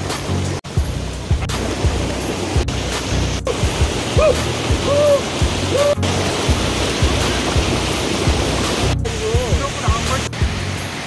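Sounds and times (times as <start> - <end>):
background music with low beat: 0.0 - 11.0
stream rushing over rocks: 0.0 - 11.0.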